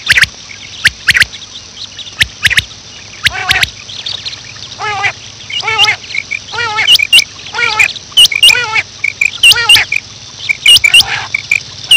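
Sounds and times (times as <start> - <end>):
quail calling: 0.0 - 11.9.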